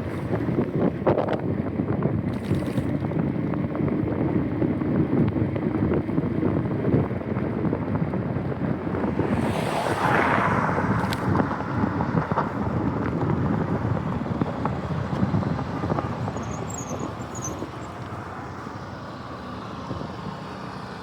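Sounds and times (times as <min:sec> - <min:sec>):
bicycle ride rumble and rattles: 0:00.0 - 0:21.0
wind buffeting microphone: 0:00.0 - 0:21.0.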